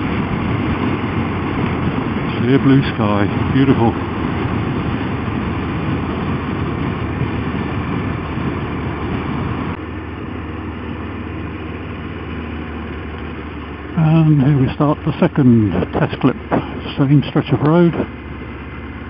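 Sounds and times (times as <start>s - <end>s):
wind rush: 0.0s - 18.2s
motorcycle engine running: 0.0s - 19.0s.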